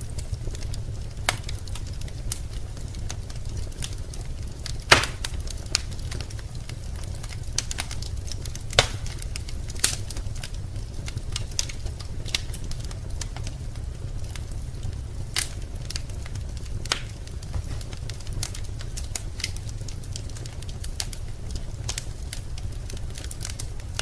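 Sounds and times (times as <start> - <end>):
loud fire pops: 0.0 - 24.0
low steady rumble: 0.0 - 24.0
wood fire crackling: 0.0 - 24.0.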